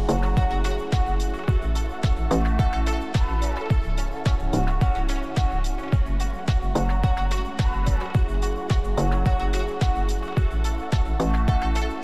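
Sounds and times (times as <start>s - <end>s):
kick drum beat: 0.0s - 11.8s.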